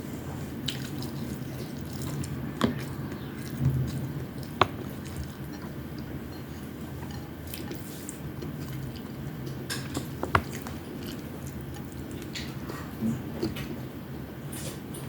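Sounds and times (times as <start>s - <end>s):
chewing with wet mouth sounds: 0.1s - 15.0s.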